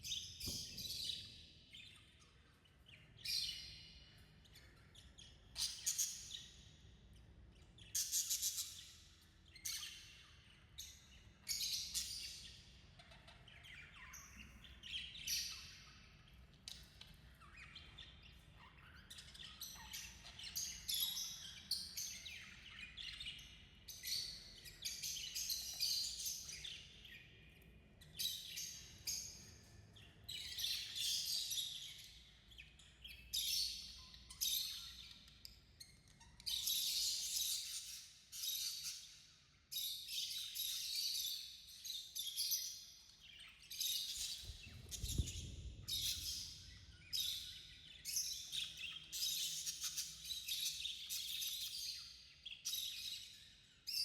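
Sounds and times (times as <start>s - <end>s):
budgies chirping: 0.1s - 54.0s.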